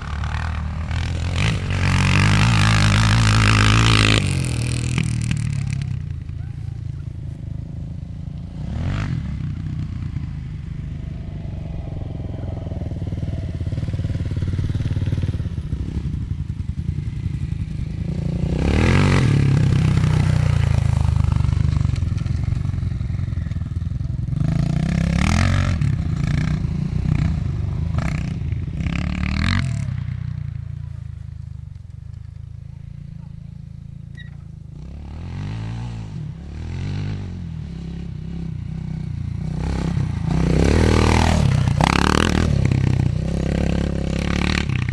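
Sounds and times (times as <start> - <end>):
dirt bike engine passing by: 0.0 - 44.9.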